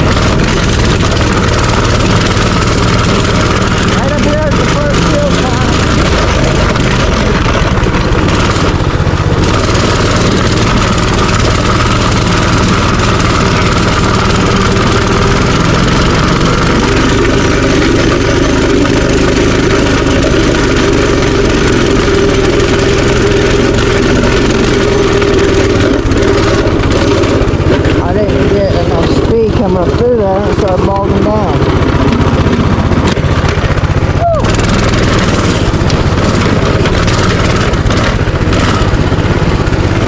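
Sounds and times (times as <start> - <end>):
minibike engine running loudly: 0.0 - 40.0.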